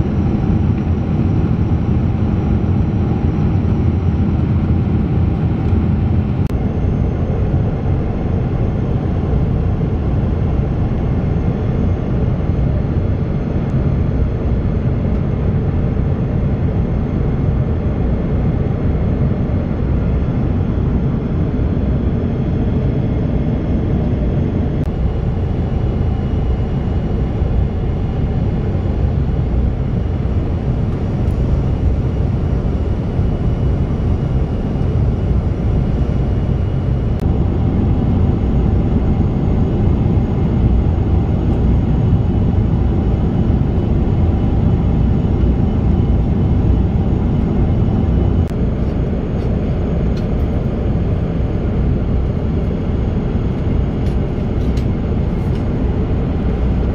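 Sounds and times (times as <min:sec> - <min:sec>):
airplane cabin roar: 0:00.0 - 0:56.9.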